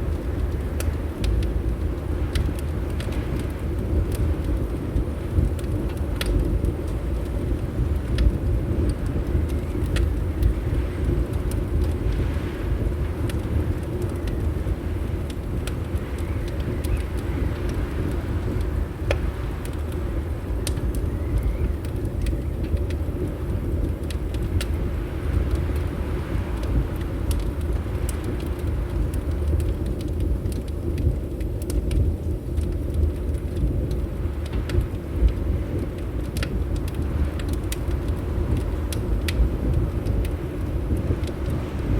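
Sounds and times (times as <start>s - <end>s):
wind rumbling against windows: 0.0s - 41.9s
wood fire crackling: 0.0s - 41.9s.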